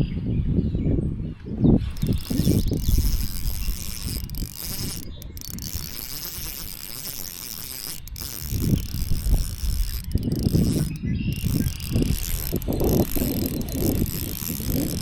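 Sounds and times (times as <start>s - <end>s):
fishing reel ratcheting: 1.8s - 15.0s
high insect drone: 2.0s - 15.0s.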